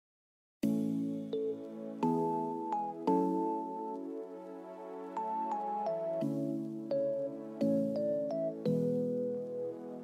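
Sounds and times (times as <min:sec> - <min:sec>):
background music with held chords: 0:00.6 - 0:10.0.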